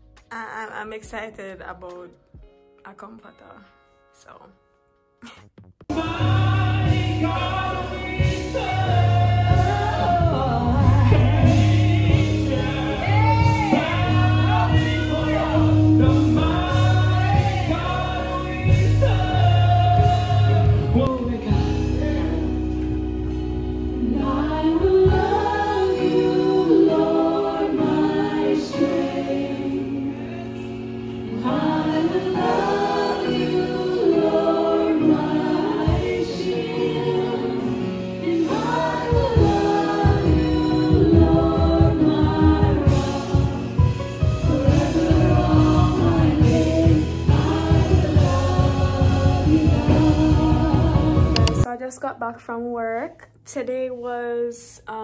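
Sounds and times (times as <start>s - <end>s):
gospel choir singing: 5.9s - 51.7s.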